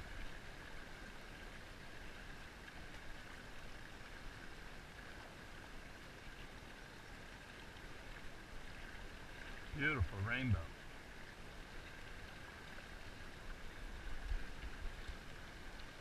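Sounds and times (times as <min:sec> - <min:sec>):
river current rushing and lapping: 0:00.0 - 0:16.0.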